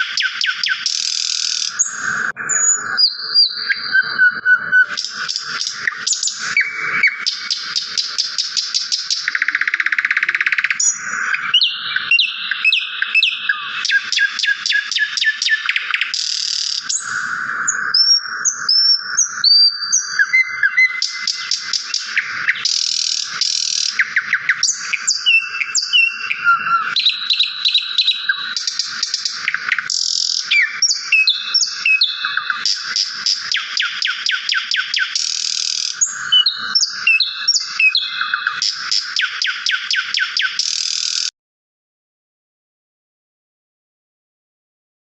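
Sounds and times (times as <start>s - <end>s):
songbirds singing: 0.0s - 41.3s.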